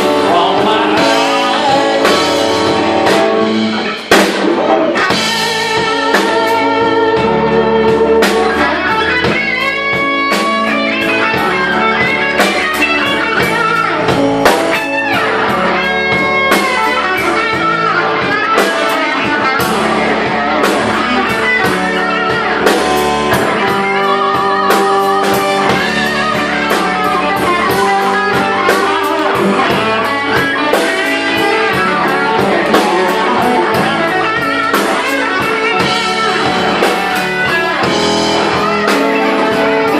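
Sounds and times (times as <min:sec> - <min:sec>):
bass and drums: 0:00.0 - 0:39.9
electric guitar: 0:00.0 - 0:39.9.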